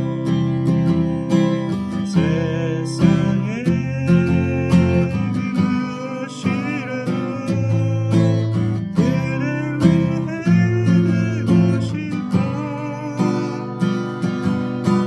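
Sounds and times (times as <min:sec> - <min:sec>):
acoustic guitar strumming: 0:00.0 - 0:15.0
man singing: 0:00.8 - 0:15.0.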